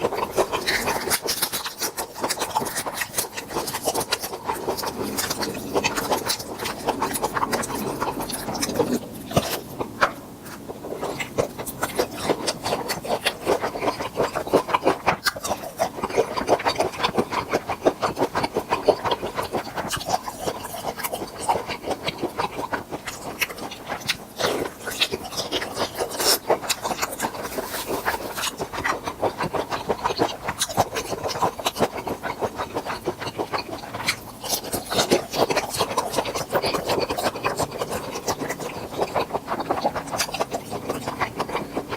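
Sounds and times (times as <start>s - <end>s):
chewing and crunching prawns: 0.0s - 41.9s.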